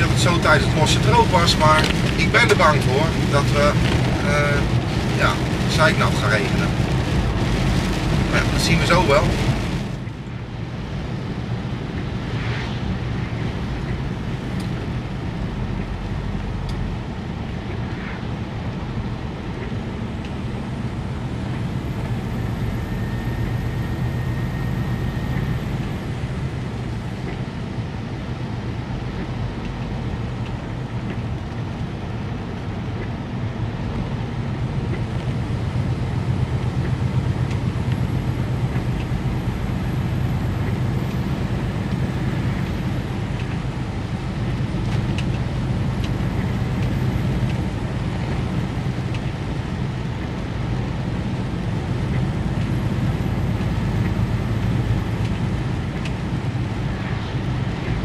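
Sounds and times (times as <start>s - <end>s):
diesel engine drone: 0.0s - 58.0s
tyre noise on wet road: 0.0s - 58.0s.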